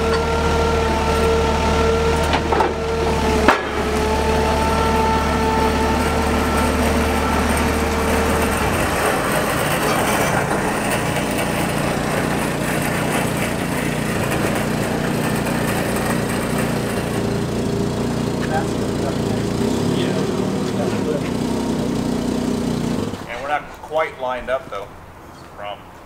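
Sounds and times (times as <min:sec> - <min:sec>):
forklift engine running: 0:00.0 - 0:23.8
steady whine: 0:00.0 - 0:24.9.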